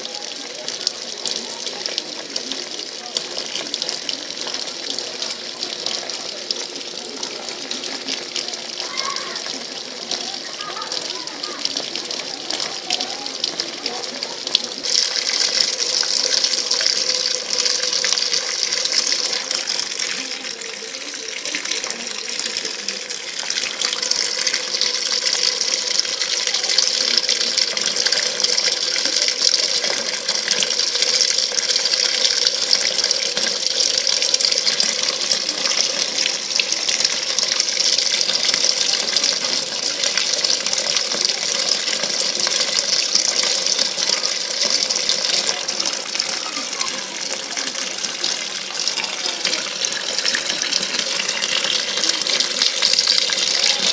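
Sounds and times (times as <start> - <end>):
water running into washing machine: 0.0 - 53.9.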